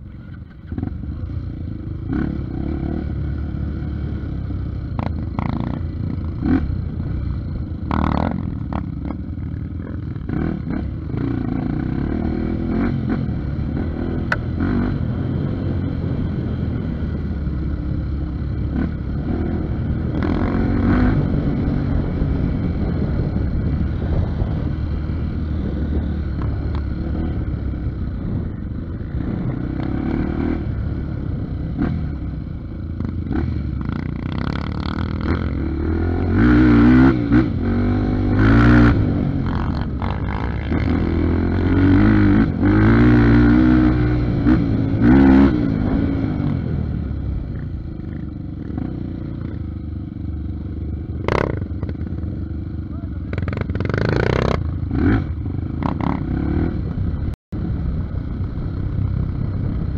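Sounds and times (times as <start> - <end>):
trail bike engine revving: 0.0 - 59.9.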